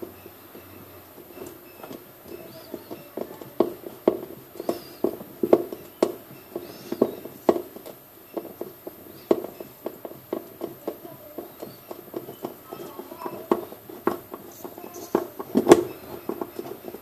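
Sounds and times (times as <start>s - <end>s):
hollow plastic knocks and clacks: 0.0s - 17.0s.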